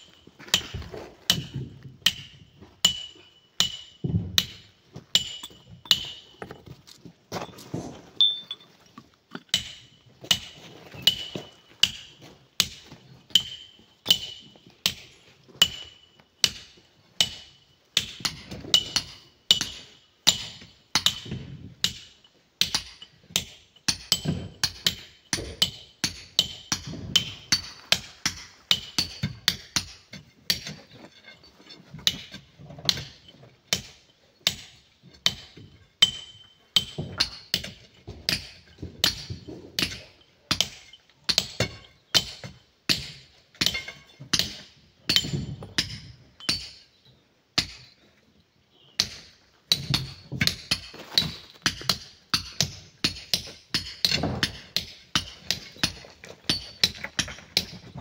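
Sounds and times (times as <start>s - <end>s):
hammer striking steel on stone: 0.0s - 6.7s, 9.3s - 30.8s, 32.0s - 47.0s, 47.6s - 48.0s, 49.0s - 58.0s.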